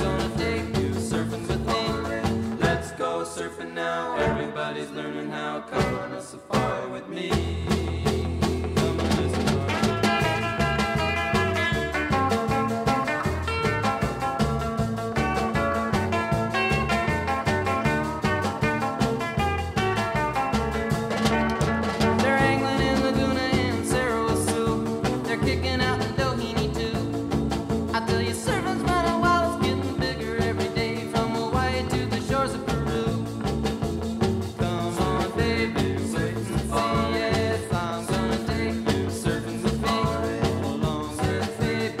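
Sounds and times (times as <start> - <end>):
upbeat surf rock song: 0.0 - 3.2, 5.7 - 42.0.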